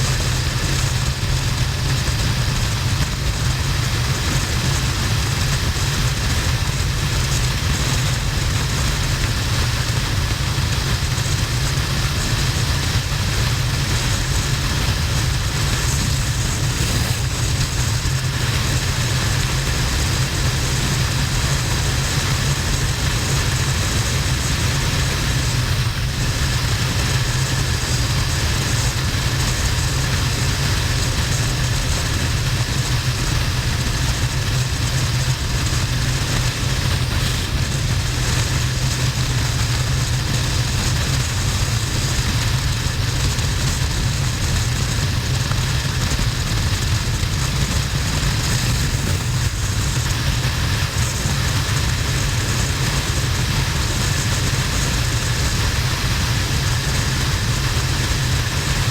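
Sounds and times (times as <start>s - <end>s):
motorcycle engine running: 0.0s - 58.9s
wind rush on camera: 0.0s - 58.9s.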